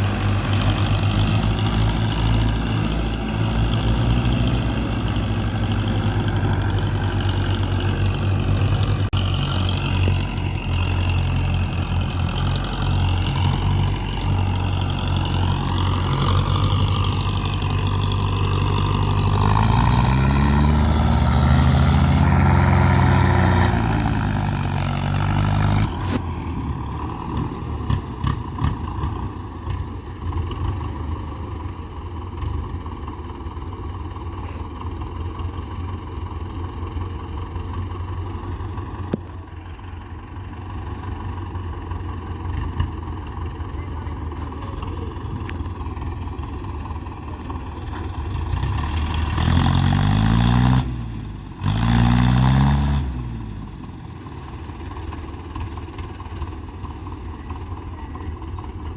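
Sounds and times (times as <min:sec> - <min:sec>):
diesel tractor engine: 0:00.0 - 0:58.9.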